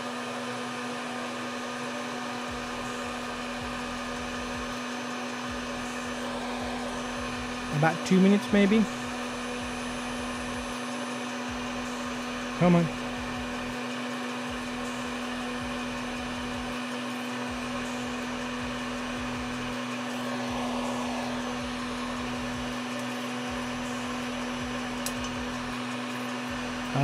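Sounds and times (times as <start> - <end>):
popcorn maker fan whirring: 0.0 - 27.0
low hum: 2.5 - 27.0.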